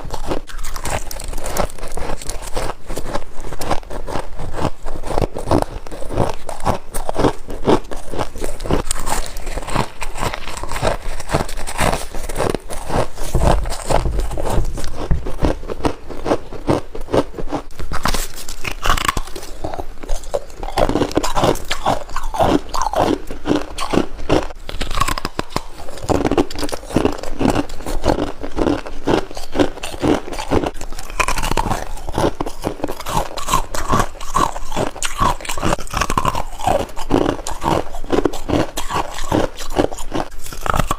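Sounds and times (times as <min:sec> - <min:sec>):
person chewing frost crunchily: 0:00.0 - 0:40.9.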